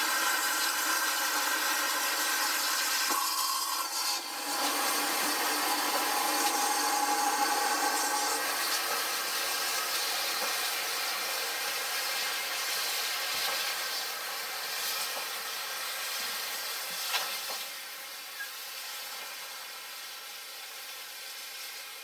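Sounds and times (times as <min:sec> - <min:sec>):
steam hissing from locomotive: 0:00.0 - 0:22.0.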